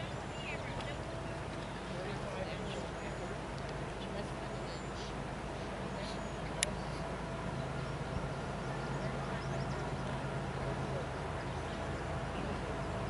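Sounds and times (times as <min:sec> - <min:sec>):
low engine-like hum: 0:00.0 - 0:13.0.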